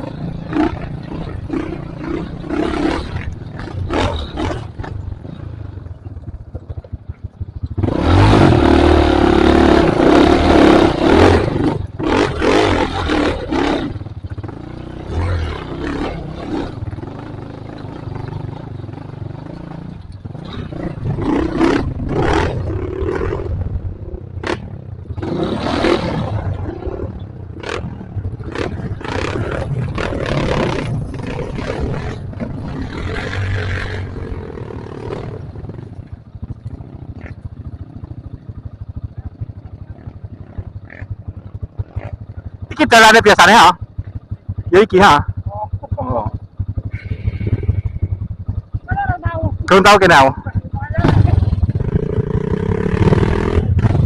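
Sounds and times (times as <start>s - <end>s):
knocks and clatter over rough ground: 0.0s - 42.9s, 43.6s - 54.0s
motorcycle engine revving: 0.0s - 54.0s.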